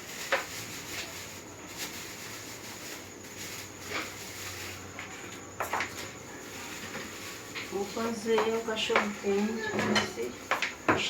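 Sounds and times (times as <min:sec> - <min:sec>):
pan simmering with hiss: 0:00.0 - 0:10.9.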